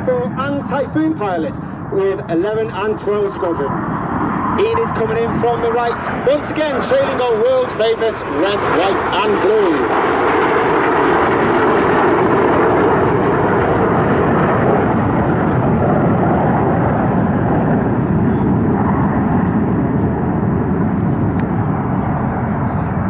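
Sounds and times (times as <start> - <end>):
held whine: 0.0 - 23.0
jet roar: 0.0 - 23.0.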